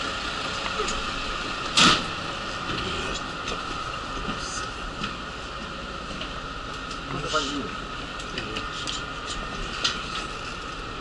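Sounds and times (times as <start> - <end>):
bus engine and road noise: 0.0 - 11.0
steady high hum: 0.0 - 11.0.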